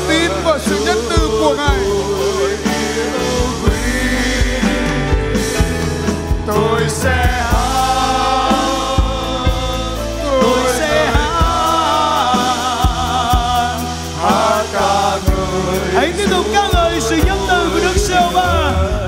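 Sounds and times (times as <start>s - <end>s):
band with drums and bass: 0.0s - 19.0s
group of singers: 0.0s - 19.0s.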